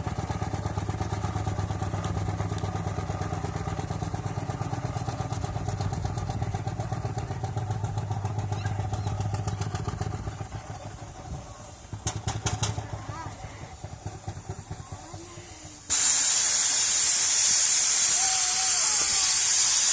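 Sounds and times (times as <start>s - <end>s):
steam traction engine clattering: 0.0s - 19.9s.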